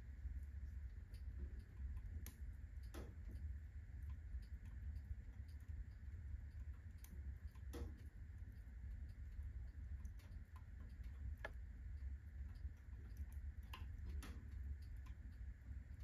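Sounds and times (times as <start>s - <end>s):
low rumble of fire: 0.0s - 16.0s
wood fire crackling: 0.0s - 16.0s.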